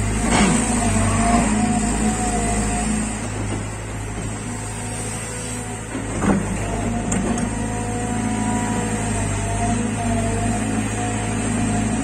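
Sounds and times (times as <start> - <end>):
excavator diesel engine: 0.0 - 12.0.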